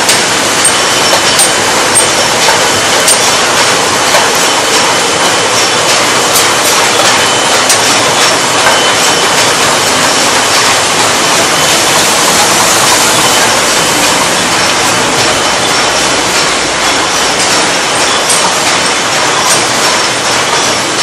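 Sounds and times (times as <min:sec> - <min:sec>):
machine clattering: 0:00.0 - 0:21.0.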